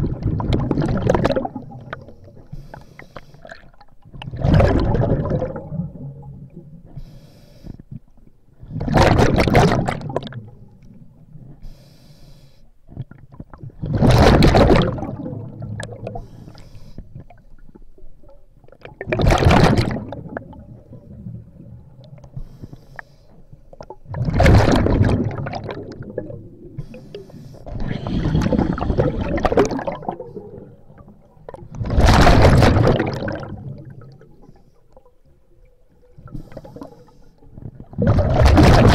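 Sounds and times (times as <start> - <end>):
exhaled bubbles underwater: 0.0 - 2.8, 3.4 - 6.9, 8.1 - 11.6, 12.9 - 22.4, 23.5 - 38.9.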